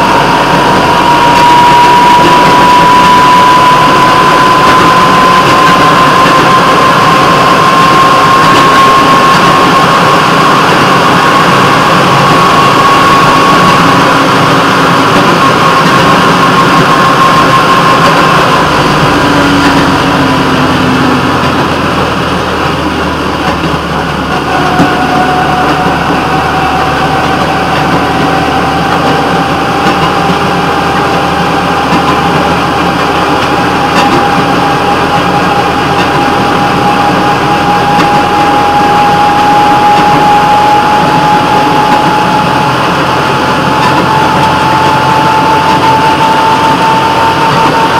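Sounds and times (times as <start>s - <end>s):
low whine rising in pitch: 0.0s - 47.9s
rail vehicle engine running: 0.0s - 47.9s
whining tone: 0.0s - 47.9s.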